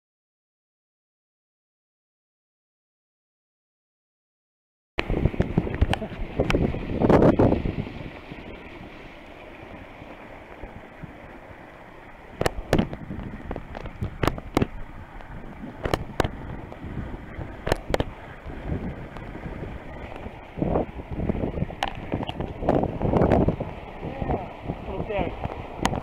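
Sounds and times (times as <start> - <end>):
hulls slapping water: 5.0 - 26.0
water rushing past hulls: 5.0 - 26.0
wind on microphone: 5.0 - 26.0.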